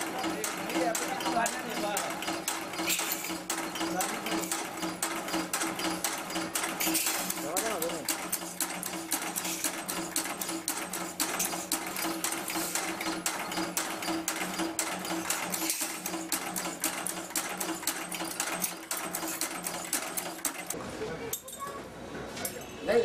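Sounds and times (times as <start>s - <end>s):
machine clattering: 0.0s - 20.8s.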